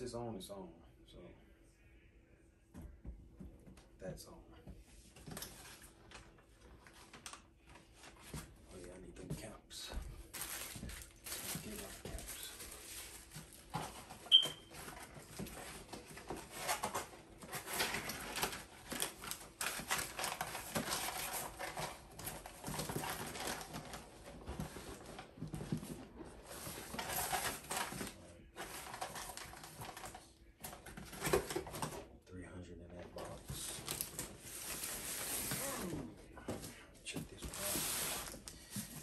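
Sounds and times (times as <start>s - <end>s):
packaging rustling and scraping: 5.1s - 8.6s, 10.3s - 32.1s, 33.0s - 39.0s.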